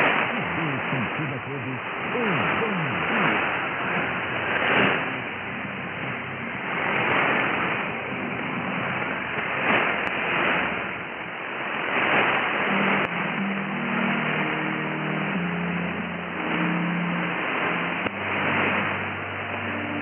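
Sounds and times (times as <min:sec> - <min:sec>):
faint radio tones: 0:00.0 - 0:20.0
radio hiss and static: 0:00.0 - 0:20.0.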